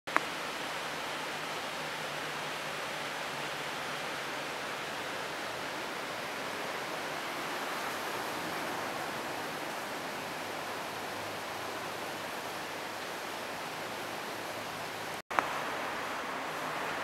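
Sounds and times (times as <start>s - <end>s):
river rushing over rapids: 0.1s - 17.0s.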